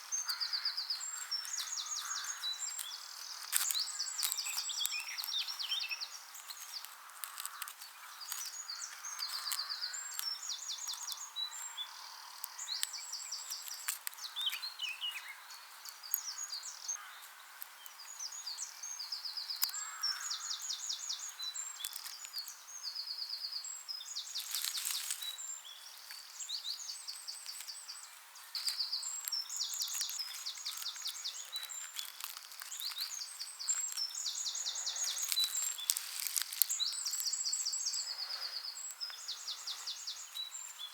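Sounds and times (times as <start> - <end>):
rustle: 0.0 - 40.9
songbirds singing: 0.0 - 40.9
light clicks and crackles: 0.2 - 16.6, 19.5 - 22.6, 24.2 - 40.9.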